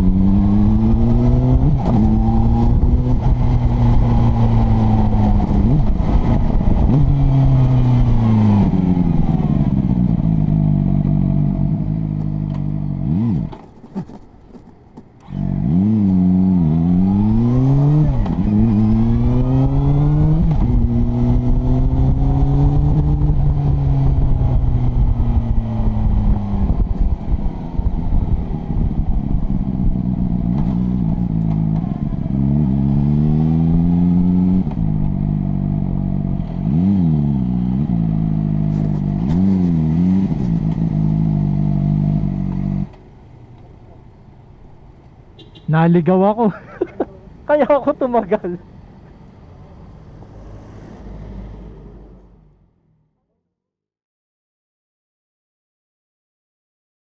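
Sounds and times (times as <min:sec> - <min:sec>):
motorcycle engine and exhaust: 0:00.0 - 0:48.3.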